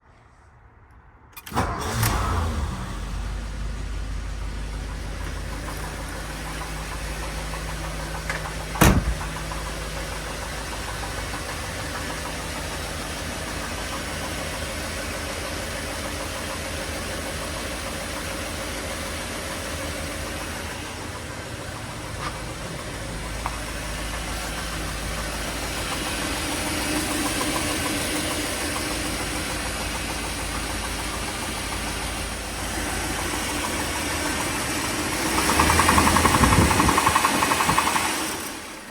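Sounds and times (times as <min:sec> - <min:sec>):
car engine running with knock: 0:04.6 - 0:38.9.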